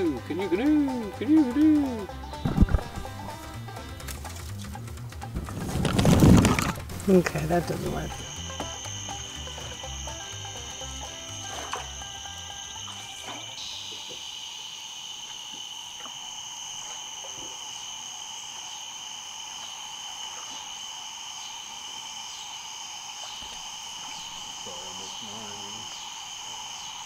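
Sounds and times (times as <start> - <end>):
faint insect chirp: 0.0 - 27.0
insects droning shrilly: 0.0 - 27.0.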